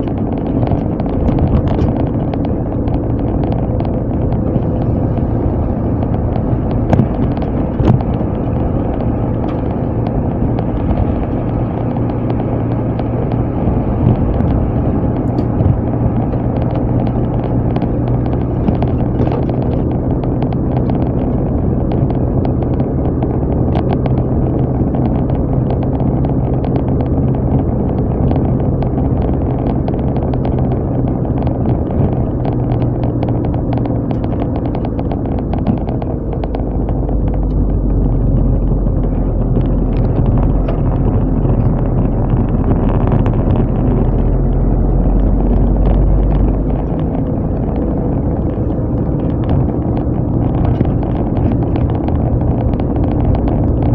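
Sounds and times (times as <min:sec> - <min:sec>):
car engine drone: 0:00.0 - 0:53.9
road noise: 0:00.0 - 0:53.9
small clicks and rattles: 0:00.0 - 0:53.9.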